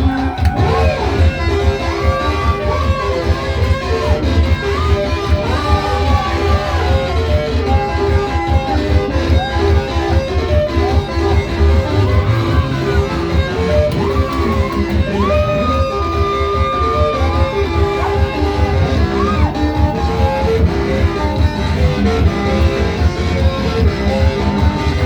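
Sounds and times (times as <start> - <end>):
praise music with guitar: 0.0 - 25.0.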